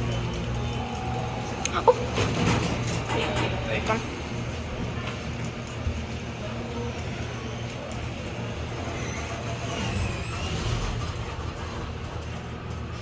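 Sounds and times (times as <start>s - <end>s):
elevator rumble and hum: 0.0s - 13.0s.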